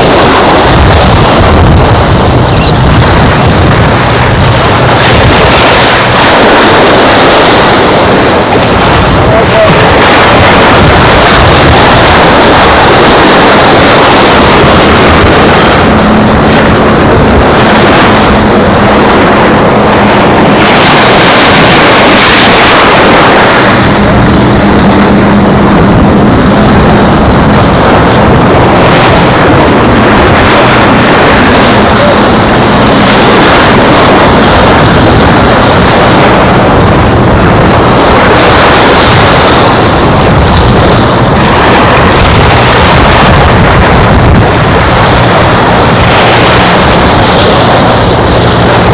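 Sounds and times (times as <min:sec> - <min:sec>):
beach surf: 0:00.0 - 0:48.9
wind buffeting microphone: 0:00.0 - 0:48.9.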